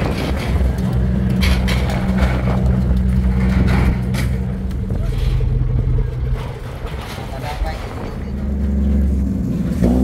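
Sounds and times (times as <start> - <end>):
heavy engine idling: 0.0 - 9.8.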